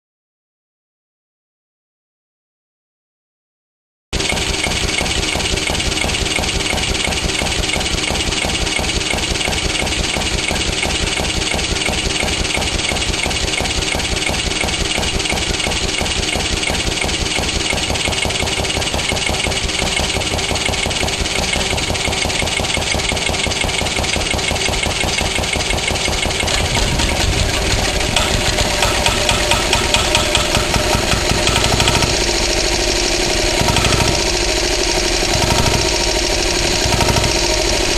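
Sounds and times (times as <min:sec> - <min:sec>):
diesel engine knocking: 0:04.2 - 0:37.9.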